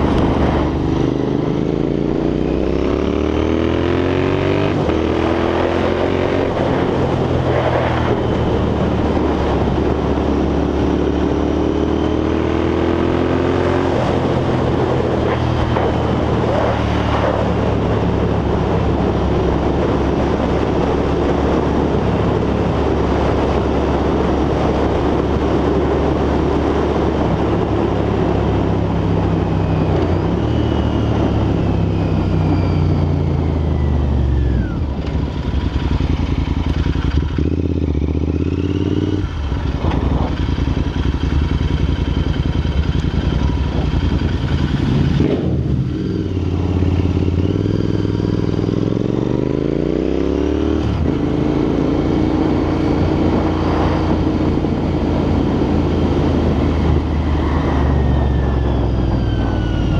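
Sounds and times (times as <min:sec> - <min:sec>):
motorcycle engine revving: 0:00.0 - 0:59.9
wind noise on microphone: 0:00.0 - 0:59.9.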